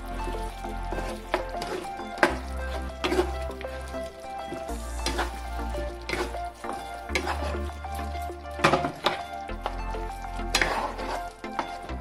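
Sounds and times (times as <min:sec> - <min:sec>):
background music: 0:00.0 - 0:12.0
gravy simmering: 0:00.0 - 0:12.0
spatula scraping a pan: 0:00.0 - 0:12.0.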